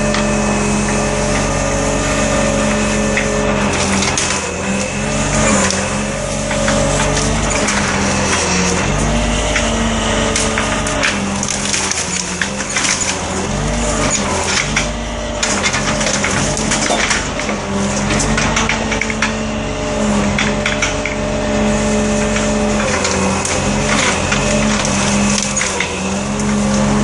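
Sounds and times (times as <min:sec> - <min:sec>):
log loader engine and hydraulics: 0:00.0 - 0:27.0
branches and logs cracking: 0:01.0 - 0:19.4, 0:20.0 - 0:27.0.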